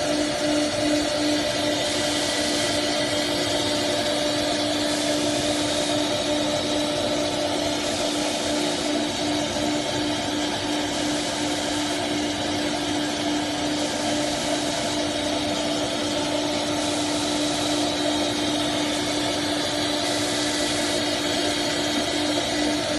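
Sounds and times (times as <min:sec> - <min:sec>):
router spindle whine: 0:00.0 - 0:22.9.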